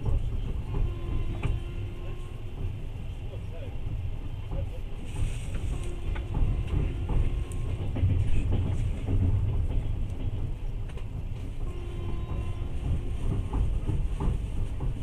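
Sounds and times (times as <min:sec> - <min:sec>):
train rumbling inside carriage: 0:00.0 - 0:15.0
wheels clicking on track: 0:00.0 - 0:15.0.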